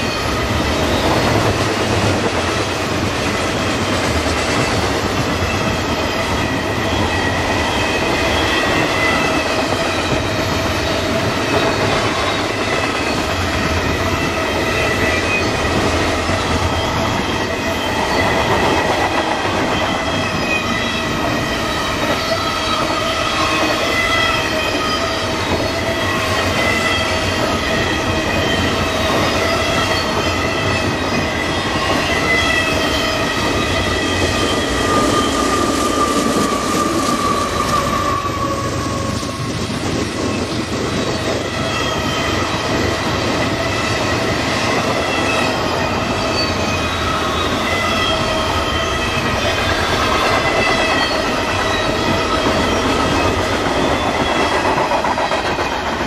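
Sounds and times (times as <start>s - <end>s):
train wheels rumbling on rails: 0.0s - 56.0s
high-pitched whining tones: 4.5s - 55.8s.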